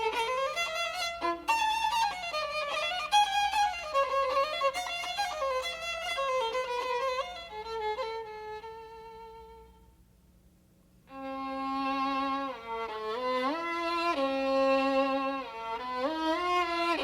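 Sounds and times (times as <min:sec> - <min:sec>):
violin melody: 0:00.0 - 0:09.8, 0:11.1 - 0:17.0.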